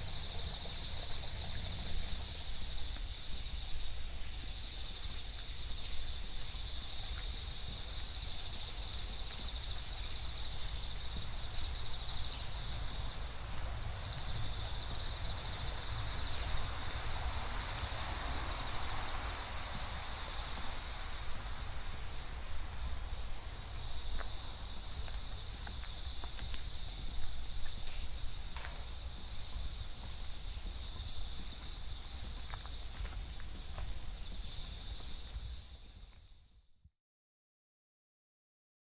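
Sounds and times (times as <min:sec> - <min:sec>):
crickets chirping: 0:00.0 - 0:36.8.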